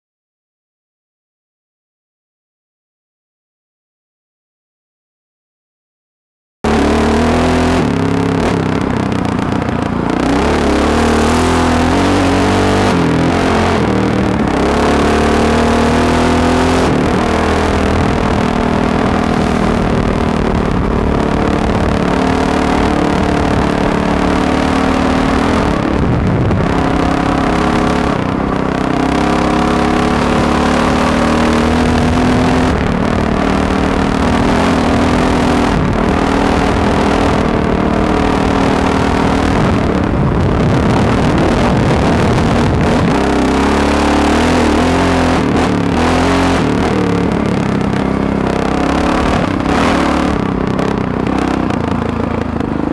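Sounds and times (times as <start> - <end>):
dirt bike engine revving: 6.6 - 52.9.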